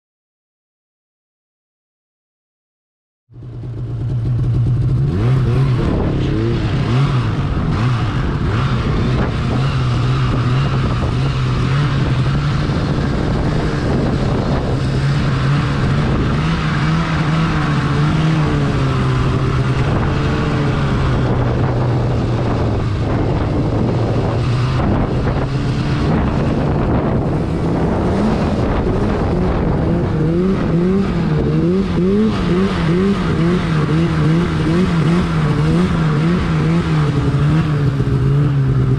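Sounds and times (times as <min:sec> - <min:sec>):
snowmobile engine revving: 0:03.4 - 0:38.9.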